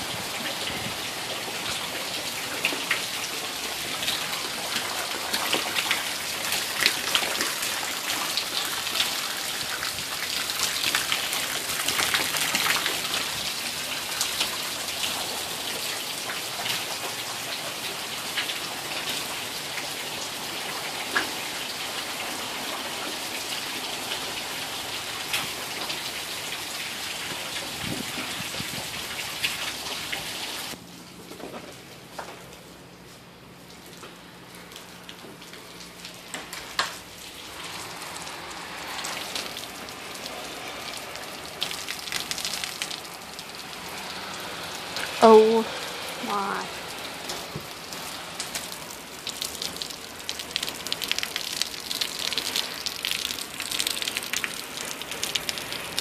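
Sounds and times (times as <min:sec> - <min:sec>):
heavy rain hiss: 0:00.0 - 0:30.8, 0:33.5 - 0:56.0
raindrops splashing: 0:00.0 - 0:56.0.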